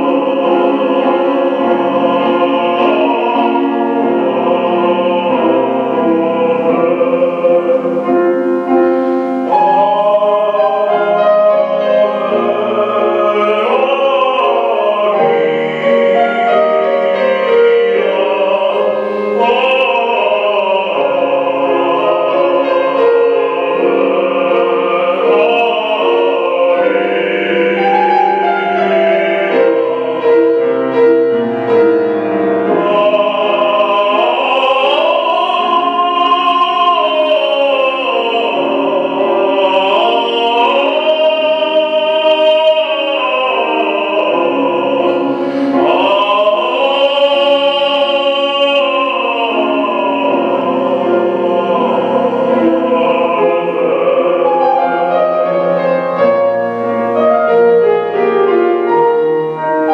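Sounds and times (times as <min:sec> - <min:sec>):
grand piano: 0:00.0 - 0:59.9
man singing opera: 0:00.0 - 0:59.9.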